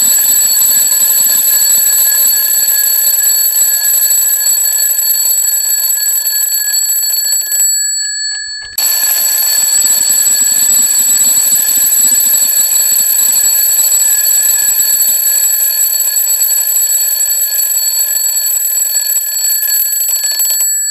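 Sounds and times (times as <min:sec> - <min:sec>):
alarm clock bells ringing: 0:00.0 - 0:20.9.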